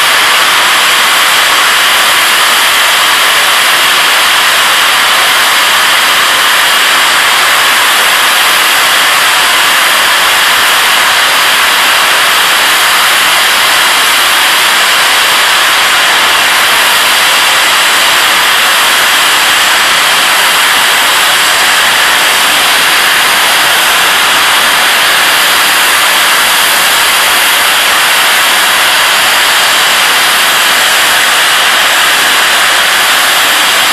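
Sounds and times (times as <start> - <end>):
steam hissing from safety valves: 0.0 - 33.9.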